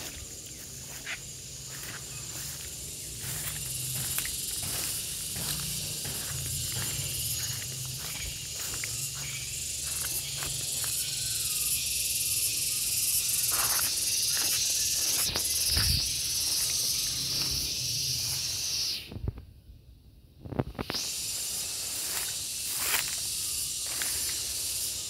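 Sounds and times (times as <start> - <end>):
cicada shrill buzzing: 0.0 - 19.2, 20.8 - 25.0.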